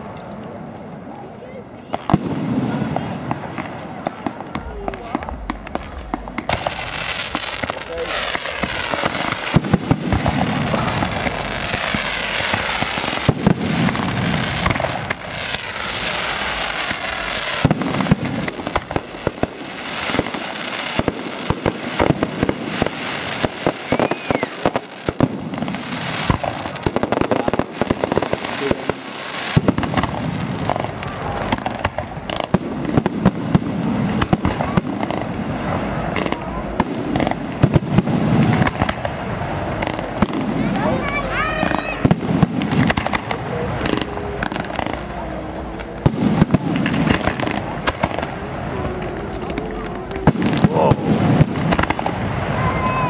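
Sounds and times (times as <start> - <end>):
dense firework crackle: 0.0 - 53.0
firework shells bursting: 1.9 - 35.5, 42.0 - 52.6.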